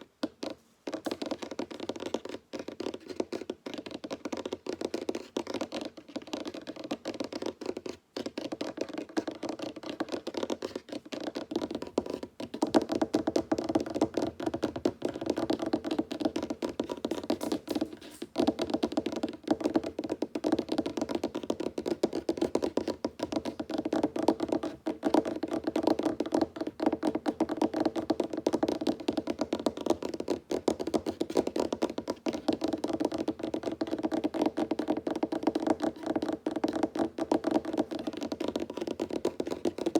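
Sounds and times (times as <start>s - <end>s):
fingers tapping on wooden table: 0.9s - 39.9s.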